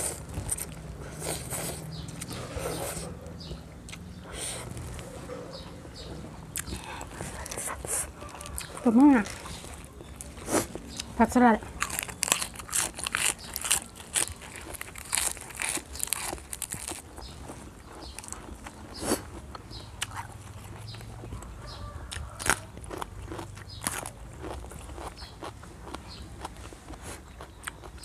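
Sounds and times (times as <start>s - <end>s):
crunching lettuce: 0.0s - 3.1s, 6.5s - 28.0s.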